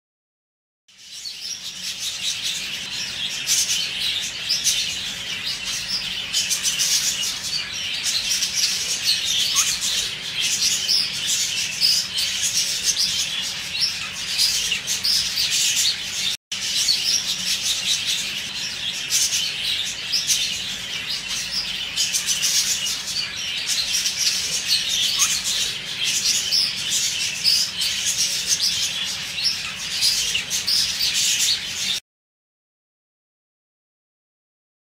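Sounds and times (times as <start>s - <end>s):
budgerigars chattering and chirping: 1.0s - 32.0s.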